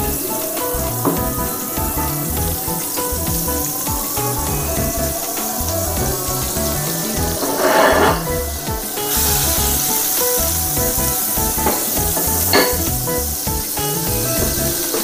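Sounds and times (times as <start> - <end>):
background music with steady beat: 0.0 - 15.0
butter sizzling in a frying pan: 0.0 - 15.0.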